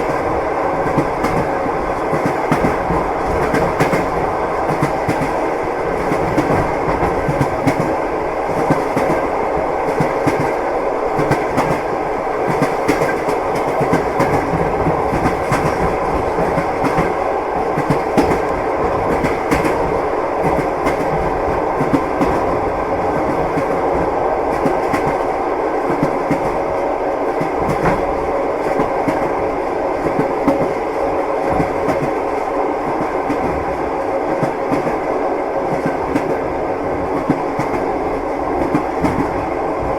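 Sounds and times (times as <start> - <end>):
train wheels clickety-clack: 0.0 - 39.9.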